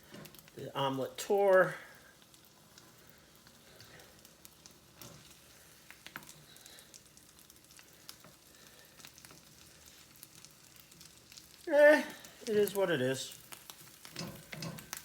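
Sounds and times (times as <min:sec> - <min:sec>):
omelette sizzling in a pan: 0:00.0 - 0:15.0.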